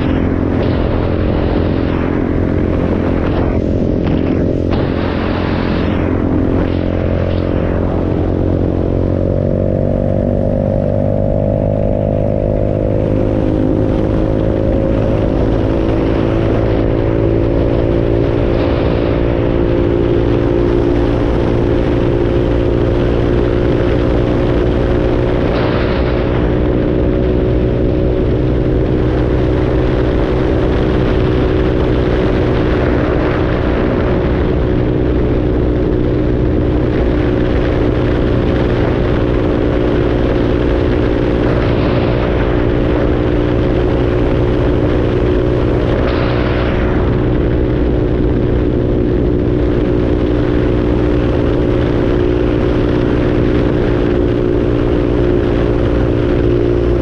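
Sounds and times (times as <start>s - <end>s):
motorcycle engine cruising: 0.0s - 57.0s
wind and road rush: 0.0s - 57.0s.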